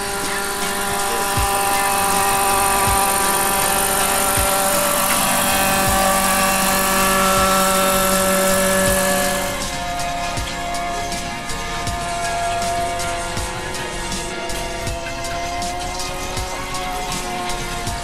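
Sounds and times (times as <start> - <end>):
model helicopter flying past: 0.0 - 18.0.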